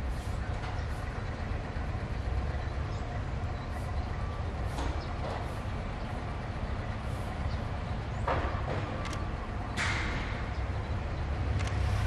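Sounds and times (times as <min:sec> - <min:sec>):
distant diesel locomotive rumble: 0:00.0 - 0:12.0.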